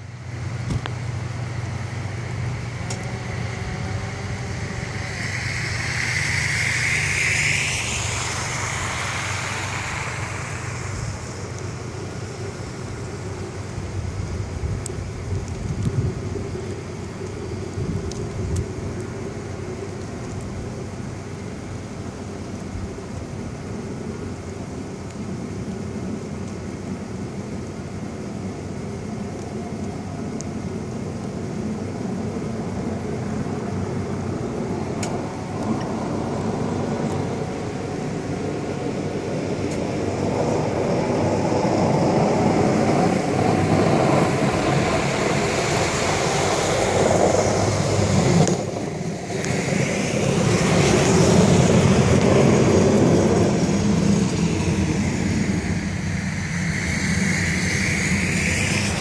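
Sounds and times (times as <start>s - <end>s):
vehicles passing on wet snow: 0.0s - 59.0s.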